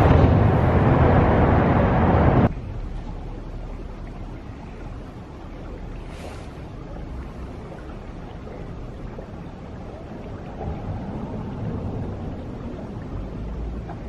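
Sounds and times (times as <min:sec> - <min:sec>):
shallow running water: 0:00.0 - 0:14.0
wind on the microphone: 0:00.0 - 0:14.0.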